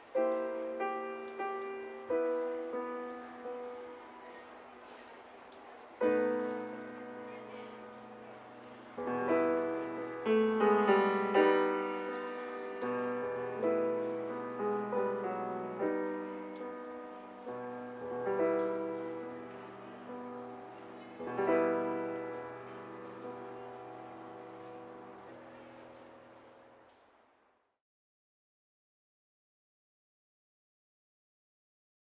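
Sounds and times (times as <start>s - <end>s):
classical grand piano: 0.0s - 27.3s.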